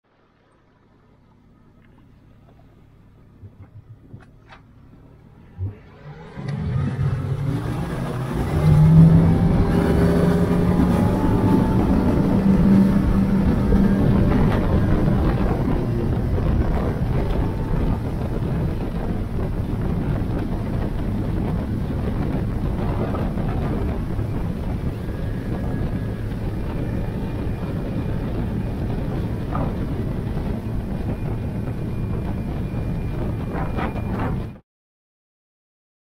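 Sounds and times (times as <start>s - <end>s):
outboard motor humming: 0.1s - 34.6s
wind buffeting microphone: 1.8s - 34.6s
rushing water from wake: 5.4s - 34.5s.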